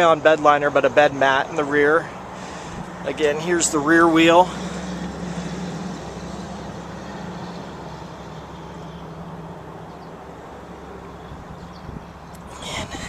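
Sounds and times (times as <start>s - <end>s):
vehicle idling hum: 0.0s - 13.0s.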